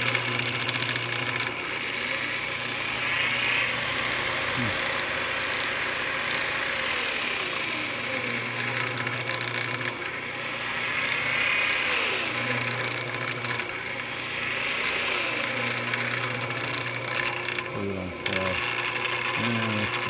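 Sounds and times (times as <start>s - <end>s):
drive belt whirring: 0.0s - 20.0s
lathe motor humming: 0.0s - 20.0s.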